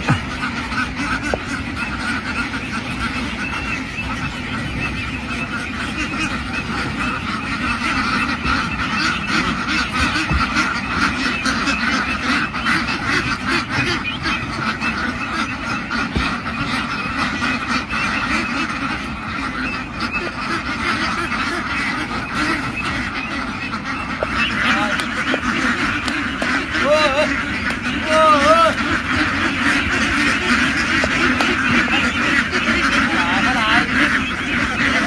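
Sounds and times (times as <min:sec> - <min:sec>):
flock of ducks quacking: 0:00.0 - 0:35.0.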